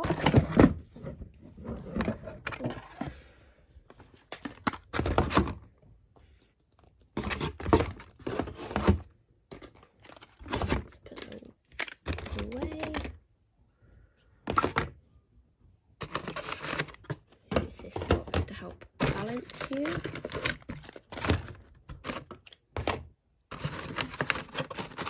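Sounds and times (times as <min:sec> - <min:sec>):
cardboard box and packaging rustling: 0:00.0 - 0:05.8, 0:06.6 - 0:13.2, 0:16.0 - 0:25.0.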